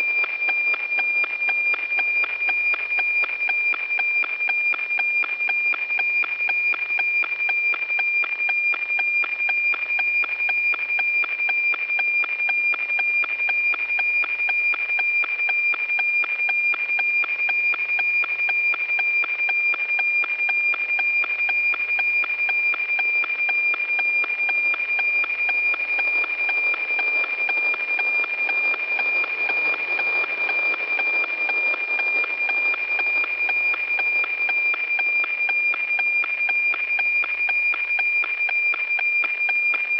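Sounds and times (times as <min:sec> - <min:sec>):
satellite signal tone with ticking: 0:00.0 - 0:39.9.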